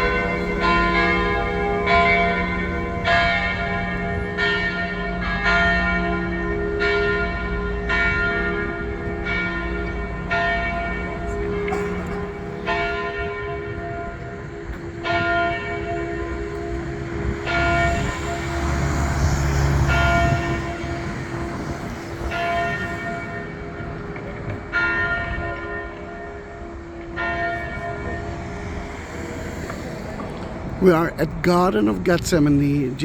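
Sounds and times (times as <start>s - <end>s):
church bells ringing: 0.0s - 33.0s.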